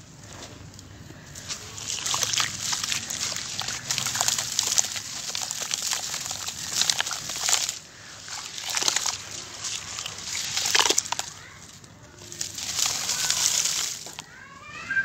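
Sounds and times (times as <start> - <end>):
charcoal crumbling by hand: 0.2 - 14.7
crumbs pattering into water: 0.8 - 14.3.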